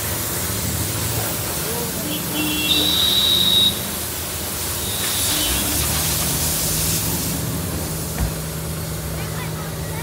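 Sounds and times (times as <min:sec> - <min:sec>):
hose water spraying on metal: 0:00.0 - 0:10.0.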